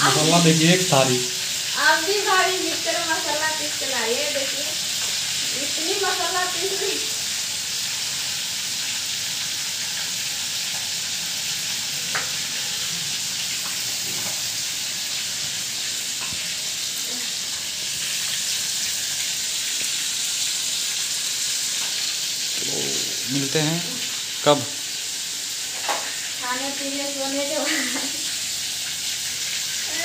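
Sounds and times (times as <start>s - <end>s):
oil sizzling in a pan: 0.0s - 30.0s.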